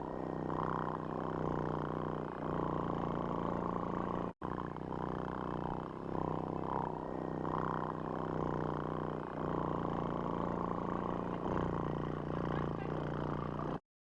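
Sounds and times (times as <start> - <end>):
small motor buzzing hum: 0.0 - 13.8.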